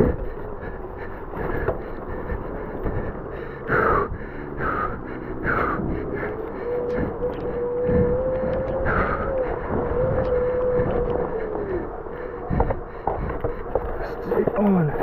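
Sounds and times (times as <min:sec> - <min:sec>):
electric hub motor whining: 0:00.0 - 0:15.0.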